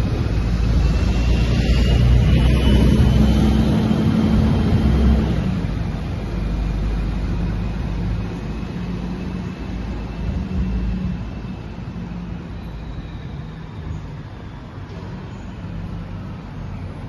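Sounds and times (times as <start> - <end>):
motor traffic rumble: 0.0 - 17.0.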